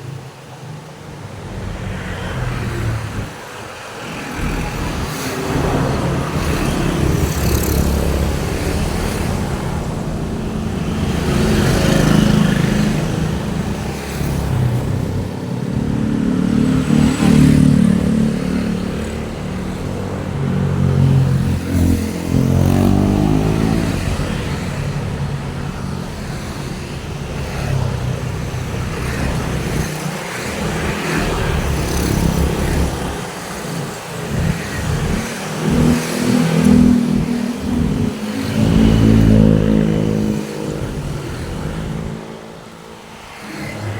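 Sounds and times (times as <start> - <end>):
vehicles passing by: 0.0 - 43.9
engine speeding up: 4.0 - 26.0, 26.7 - 42.5.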